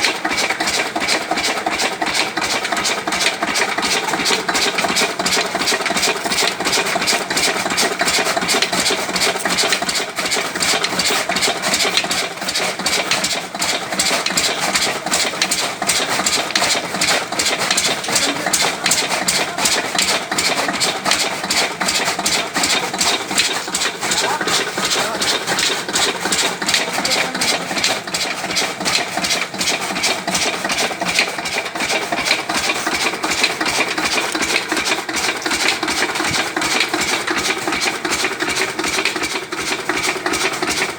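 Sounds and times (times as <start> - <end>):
chaff cutter chopping cane: 0.0 - 40.9
diesel engine running: 0.0 - 40.9.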